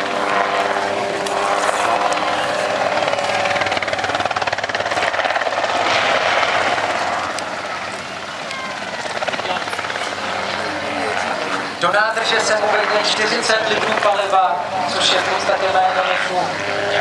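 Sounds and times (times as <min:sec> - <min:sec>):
helicopter engine buzzing: 0:00.0 - 0:17.0
helicopter rotor chop: 0:00.0 - 0:17.0.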